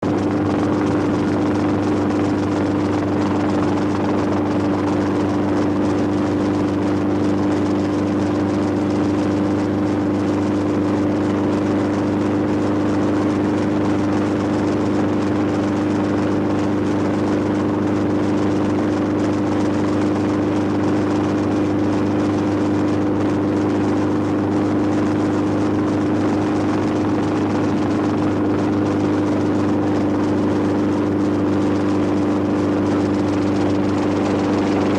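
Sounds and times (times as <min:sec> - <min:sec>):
steady engine drone: 0:00.0 - 0:34.9.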